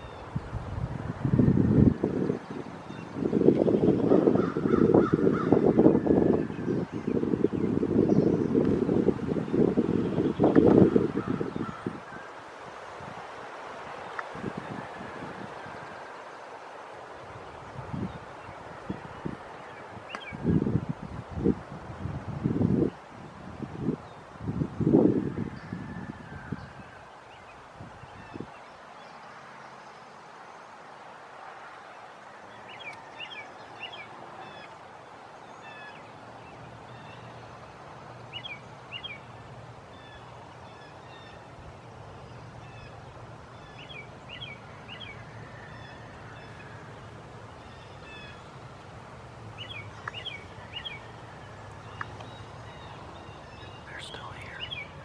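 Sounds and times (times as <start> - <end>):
songbird chirping: 1.3 - 20.8, 25.6 - 55.0.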